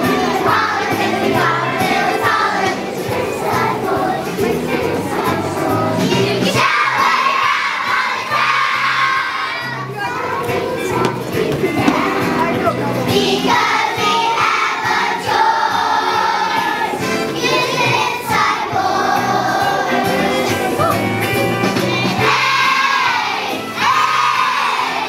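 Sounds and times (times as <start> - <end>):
children's choir singing: 0.0 - 21.0, 21.6 - 25.0
musical accompaniment: 0.0 - 25.0.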